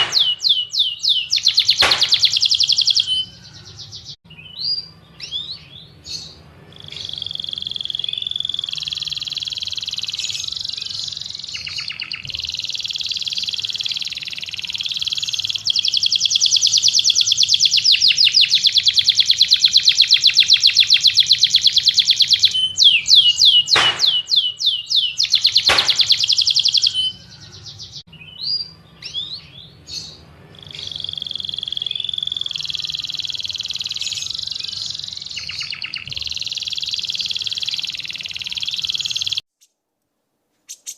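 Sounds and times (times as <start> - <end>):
songbird singing with trills: 0.0 - 39.8.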